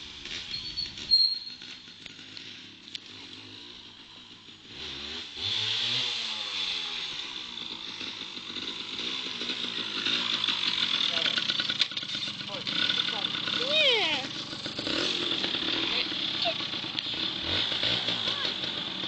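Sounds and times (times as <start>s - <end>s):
motorbike engine droning: 0.0s - 19.0s.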